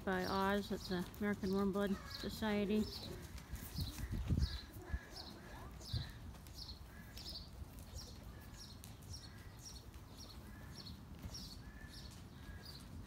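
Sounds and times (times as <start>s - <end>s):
horse walking on sand: 0.0s - 13.0s.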